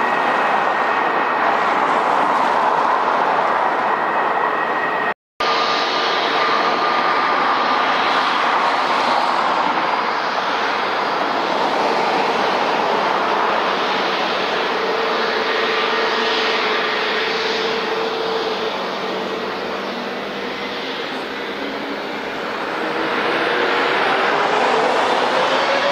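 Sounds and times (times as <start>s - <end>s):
jet airliner engines roaring: 0.0s - 25.9s.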